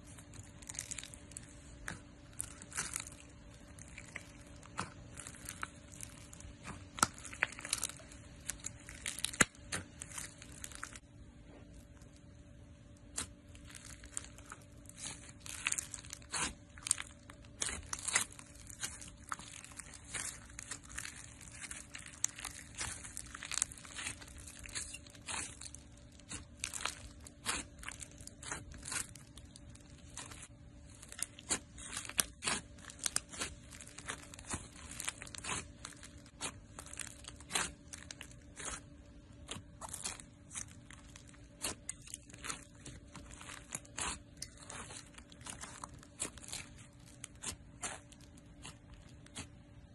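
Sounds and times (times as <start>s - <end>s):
slime crackling and popping: 0.0s - 49.9s.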